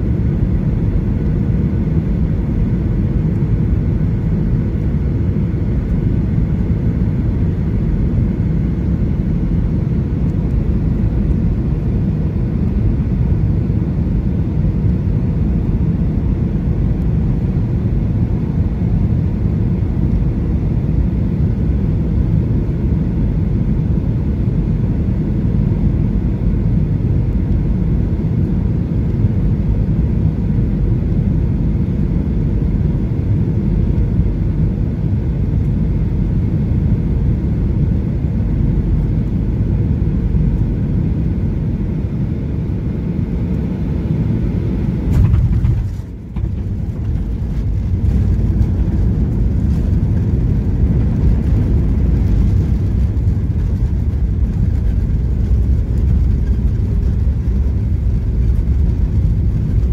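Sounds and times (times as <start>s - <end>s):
deep airplane cabin rumble: 0.0s - 59.9s.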